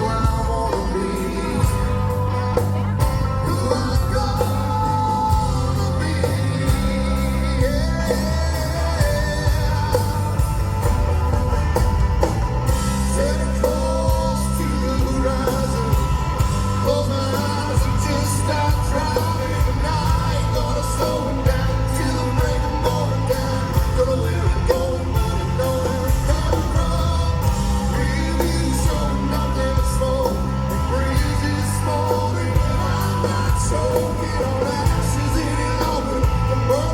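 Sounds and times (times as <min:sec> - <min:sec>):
drums keeping a steady beat: 0:00.0 - 0:36.9
live rock band playing: 0:00.0 - 0:36.9.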